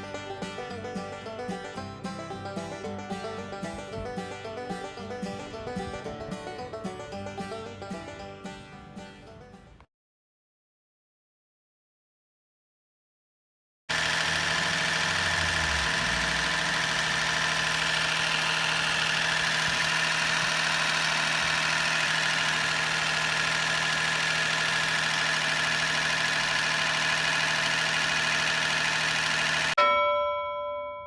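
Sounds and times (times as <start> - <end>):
car engine idling: 0.0 - 9.8, 13.9 - 29.8.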